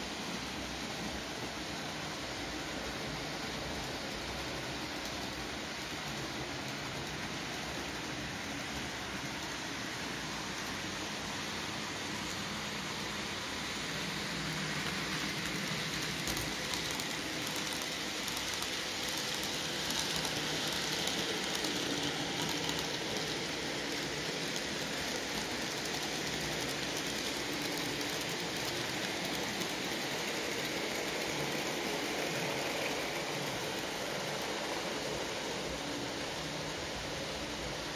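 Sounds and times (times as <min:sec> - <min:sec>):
model train motors whirring and rattling: 0:00.0 - 0:37.9.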